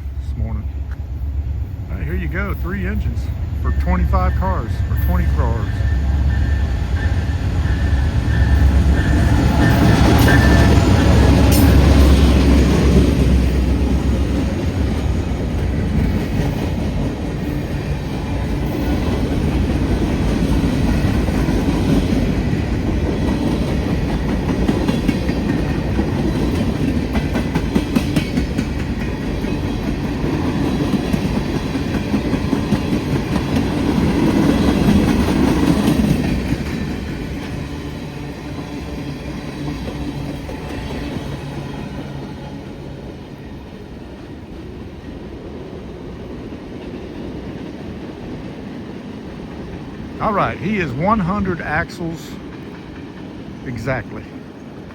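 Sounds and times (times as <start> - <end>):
diesel locomotive engine rumble: 0.0 - 54.9.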